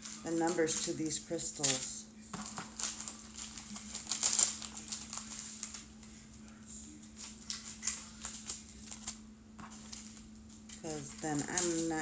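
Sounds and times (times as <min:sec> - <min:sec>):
faint steady hum: 0:00.0 - 0:12.0
plastic packets clicking and rustling: 0:00.0 - 0:12.0.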